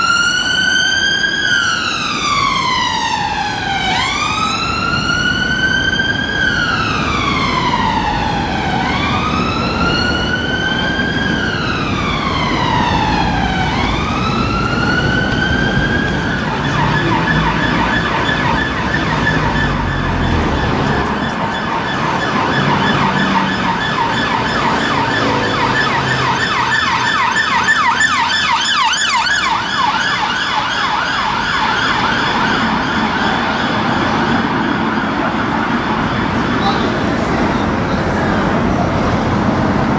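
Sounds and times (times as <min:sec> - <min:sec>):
fast warbling siren yelp: 0:00.0 - 0:37.0
ambulance siren slow wail: 0:00.0 - 0:39.9.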